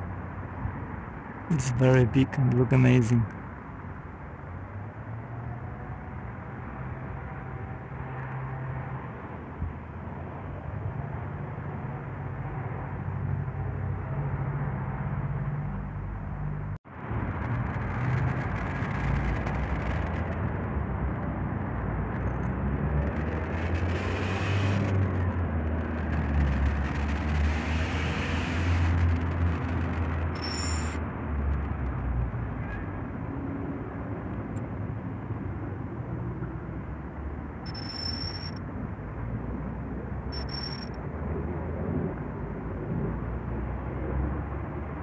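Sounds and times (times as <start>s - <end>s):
road traffic rumble: 0.0s - 45.0s
vehicles passing: 0.0s - 45.0s.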